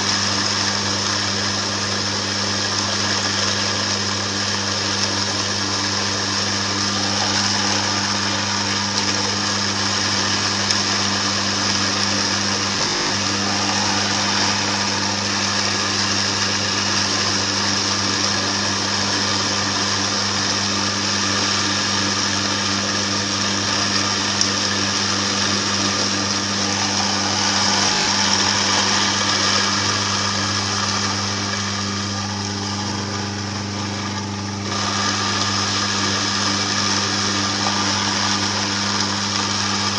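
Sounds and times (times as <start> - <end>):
grinder motor humming: 0.0 - 39.9.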